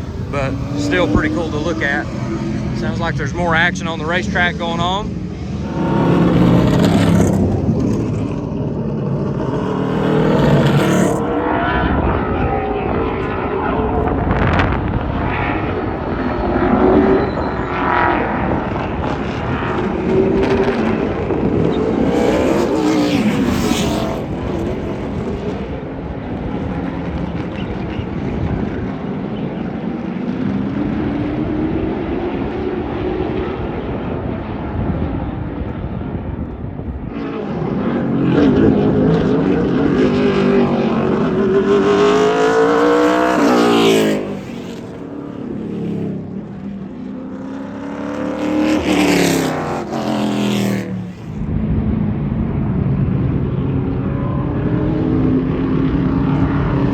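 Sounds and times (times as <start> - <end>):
race car engines revving: 0.0 - 56.9.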